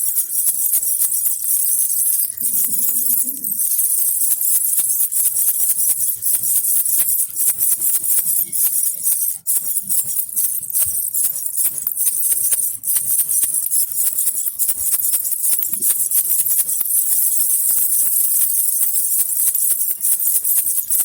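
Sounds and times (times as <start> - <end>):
baby rattle shaken: 0.0 - 21.0.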